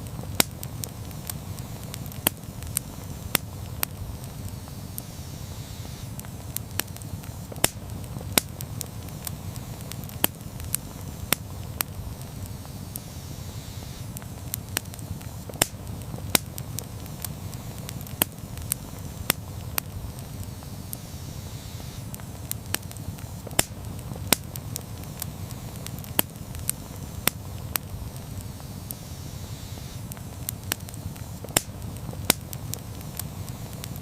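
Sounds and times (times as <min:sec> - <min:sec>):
campfire pops and snaps: 0:00.0 - 0:34.0
low fire rumble: 0:00.0 - 0:34.0.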